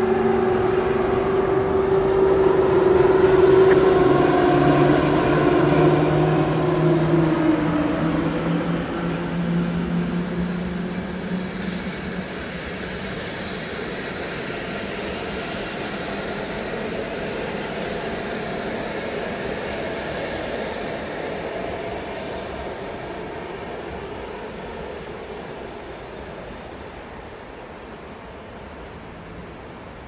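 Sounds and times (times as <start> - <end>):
locomotive hum: 0.0 - 30.0
train wheels rolling on rails: 0.0 - 30.0.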